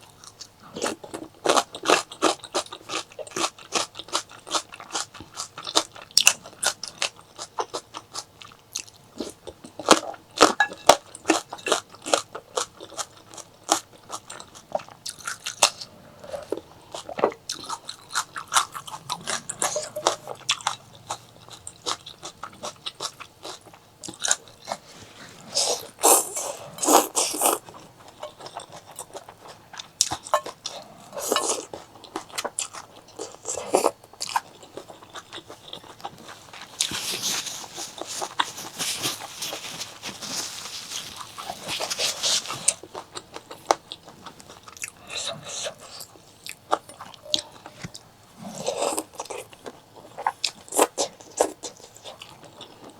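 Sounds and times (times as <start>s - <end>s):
chewing and crunching: 0.0s - 52.9s.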